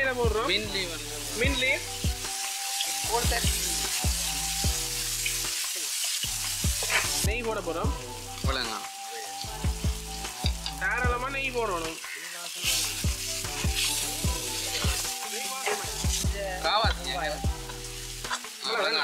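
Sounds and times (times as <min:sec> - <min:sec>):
oil sizzling with vegetables: 0:00.0 - 0:19.0.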